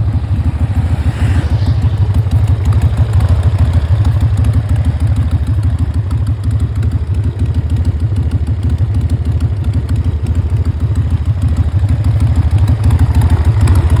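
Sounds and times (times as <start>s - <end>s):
motorcycle idling: 0.0s - 14.0s.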